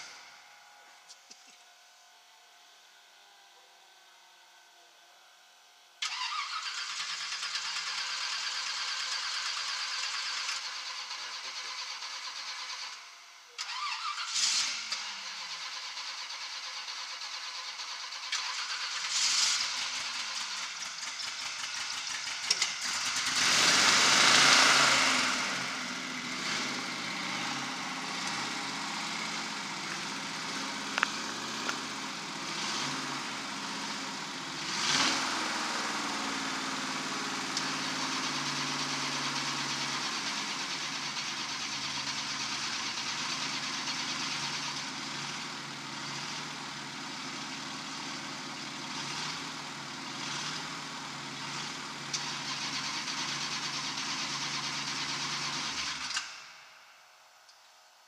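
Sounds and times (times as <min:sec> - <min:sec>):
car engine revving and idling: 0:00.0 - 0:57.6.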